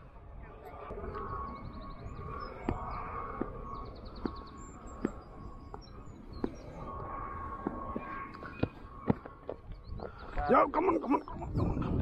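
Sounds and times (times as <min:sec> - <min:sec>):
outdoor background noise: 0:00.0 - 0:12.0
birds singing: 0:00.4 - 0:12.0.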